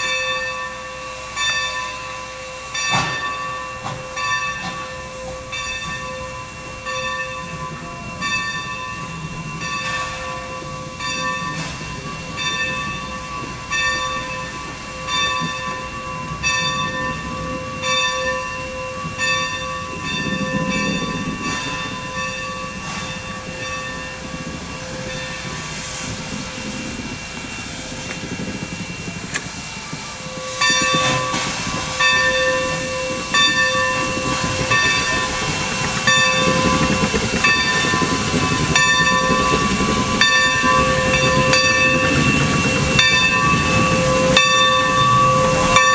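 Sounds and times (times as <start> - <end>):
hissing steam: 0.0 - 45.9
locomotive bell ringing: 0.0 - 45.9.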